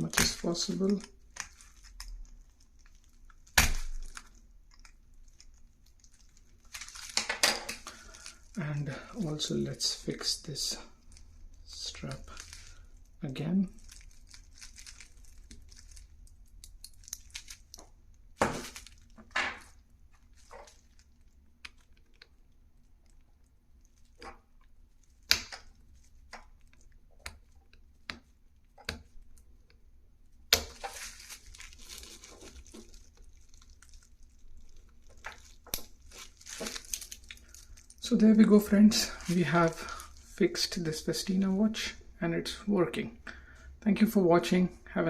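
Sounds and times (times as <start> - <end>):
plastic crinkling: 0.0 - 29.6, 30.5 - 40.8.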